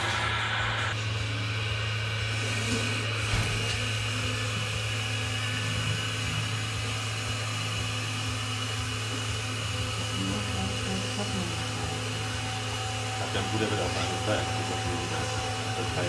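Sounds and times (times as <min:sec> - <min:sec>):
constant low hum: 0:00.0 - 0:16.0
electric drive whirring hum: 0:00.0 - 0:16.0
thin steady whine: 0:00.0 - 0:16.0.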